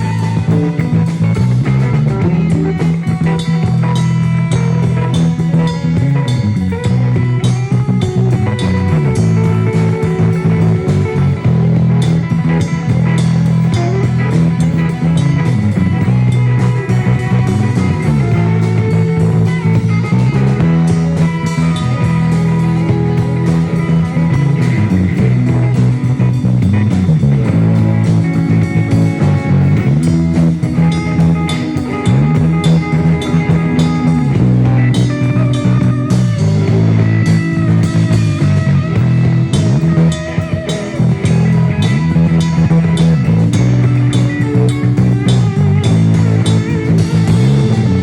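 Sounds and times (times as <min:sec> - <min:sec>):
bass guitar: 0:00.0 - 0:48.0
drum kit beat: 0:00.0 - 0:48.0
guitar: 0:00.0 - 0:48.0.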